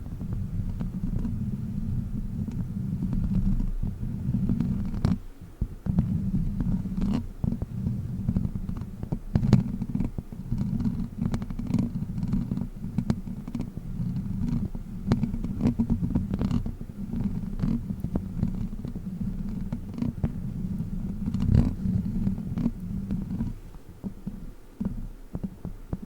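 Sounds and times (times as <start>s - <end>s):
prop rubbing against microphone: 0.0s - 25.8s.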